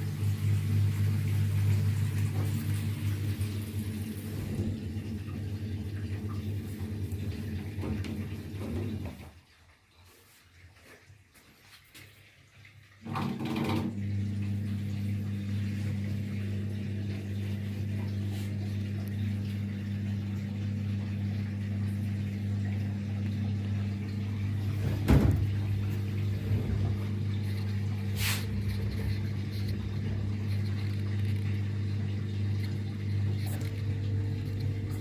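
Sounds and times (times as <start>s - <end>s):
washing machine spinning hum: 0.0s - 35.0s.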